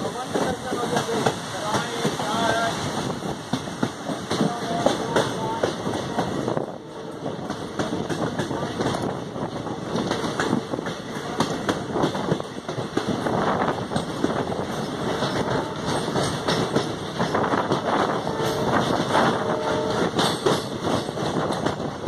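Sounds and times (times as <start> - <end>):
train rumbling: 0.0 - 22.0
wheels clicking and rattling on rails: 0.0 - 22.0.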